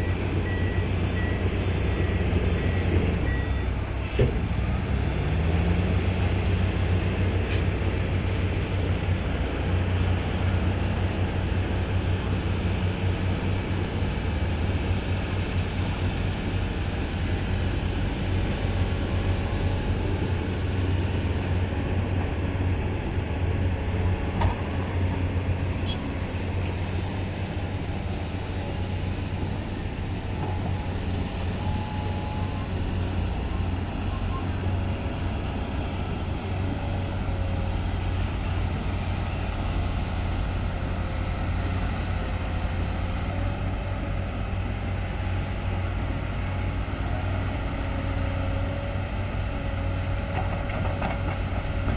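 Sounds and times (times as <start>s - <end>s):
diesel engines droning: 0.0s - 51.9s.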